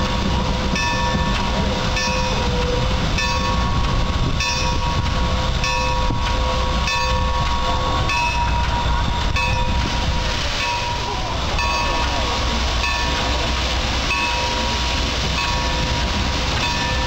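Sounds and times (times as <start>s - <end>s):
low rumble of locomotive: 0.0s - 17.0s
steam hissing: 0.0s - 17.0s
locomotive bell ringing: 0.1s - 17.0s.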